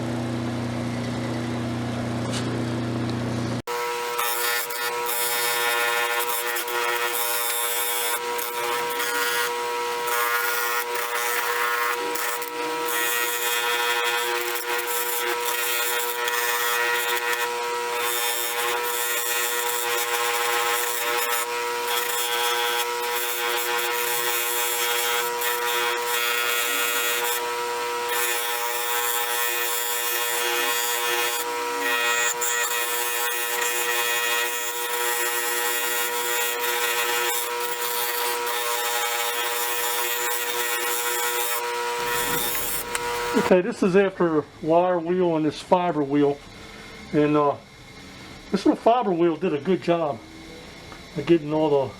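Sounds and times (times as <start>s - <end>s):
power tool motor whine: 2.6s - 43.6s, 45.8s - 51.9s
abrasive wheel grinding steel: 3.7s - 51.9s.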